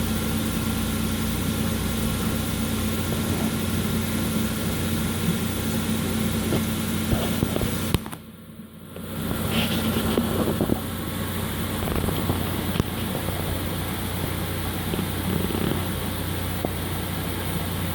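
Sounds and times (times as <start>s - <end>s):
machine hum: 0.0s - 17.9s.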